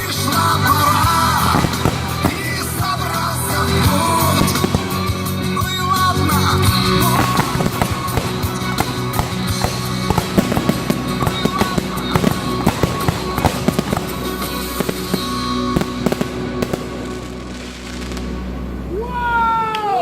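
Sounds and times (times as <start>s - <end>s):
fireworks bangs and crackles: 0.0s - 18.9s
music: 0.0s - 20.0s.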